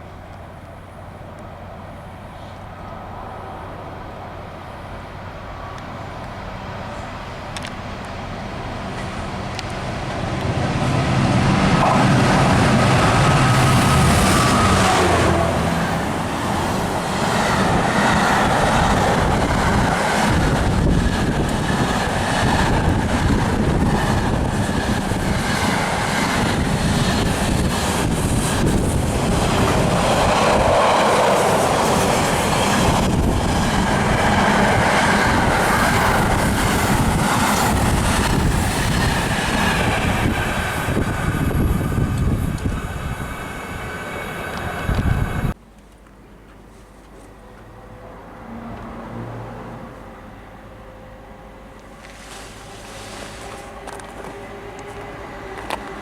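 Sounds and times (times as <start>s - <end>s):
train passing with low rumble: 0.0s - 56.0s.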